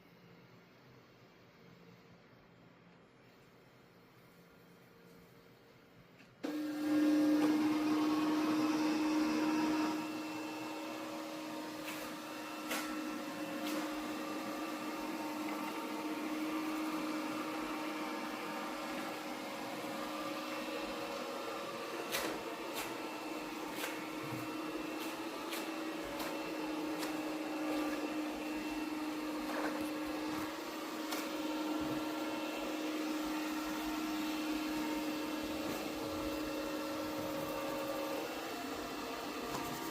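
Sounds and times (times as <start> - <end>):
robot vacuum motor humming: 6.4 - 39.9.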